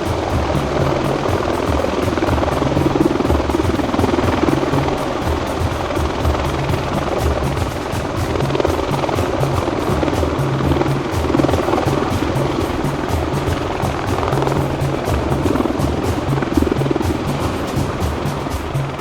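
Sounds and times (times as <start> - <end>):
helicopter rotor and engine: 0.0 - 18.9
background music: 0.0 - 19.0.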